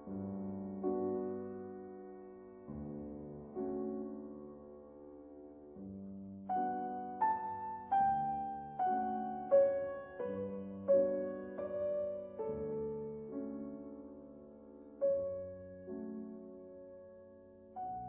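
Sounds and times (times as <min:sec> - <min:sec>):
soft piano melody: 0:00.0 - 0:18.0.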